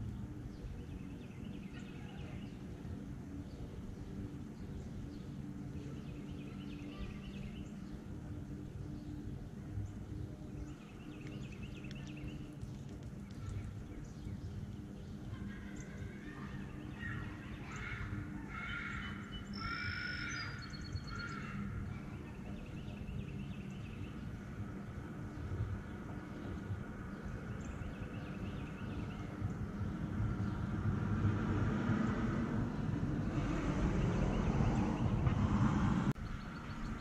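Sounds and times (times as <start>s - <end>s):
birds singing and chirping: 0.0s - 37.0s
low steady hum: 0.0s - 37.0s.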